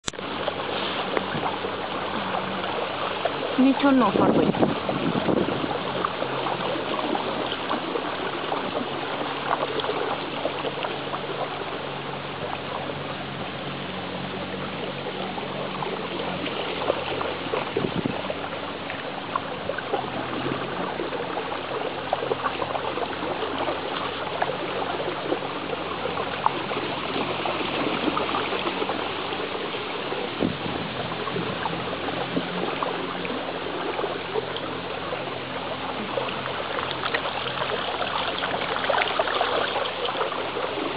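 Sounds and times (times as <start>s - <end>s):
paddle wheels churning water: 0.0s - 40.9s
small water splashes: 0.0s - 40.9s.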